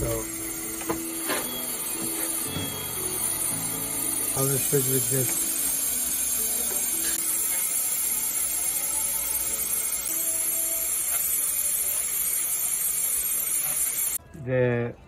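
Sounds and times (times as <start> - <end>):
dental equipment hissing: 0.0 - 14.2.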